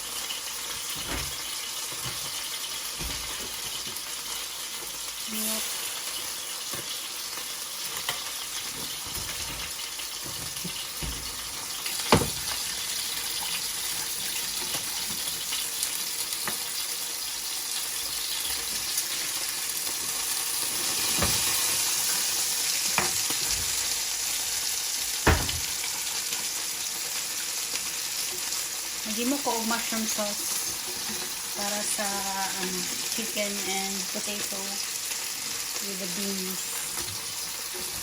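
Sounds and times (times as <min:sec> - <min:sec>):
sauce sizzling in a frying pan: 0:00.0 - 0:38.0.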